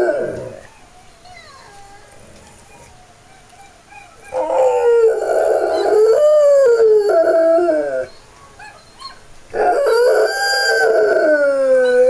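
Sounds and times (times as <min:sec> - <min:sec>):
dog howling: 0:00.0 - 0:03.0, 0:04.0 - 0:12.0.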